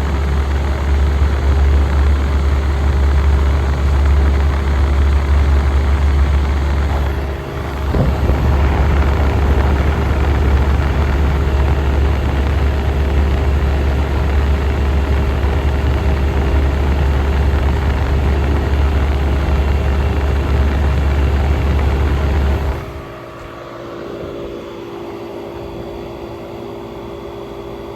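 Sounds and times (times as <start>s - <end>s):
air conditioner humming: 0.0s - 27.9s.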